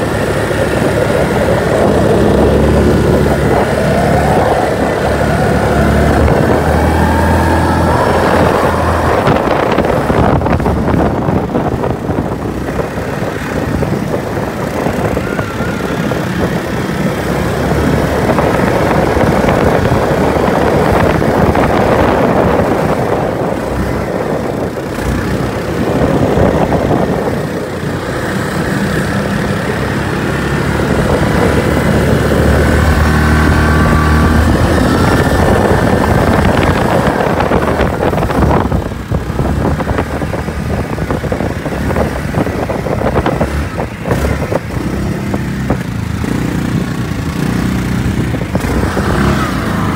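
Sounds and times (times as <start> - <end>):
quad bike engines running: 0.0 - 49.9.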